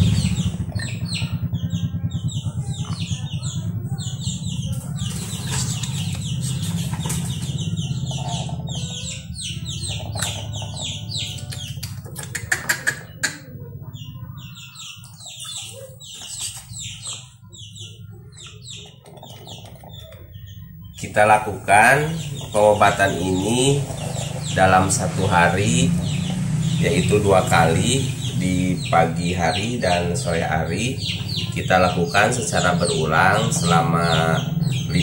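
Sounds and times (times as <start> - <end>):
high bird chirps: 0.0 - 35.0
steady low hum: 0.0 - 35.0
chicken clucking: 2.5 - 35.0.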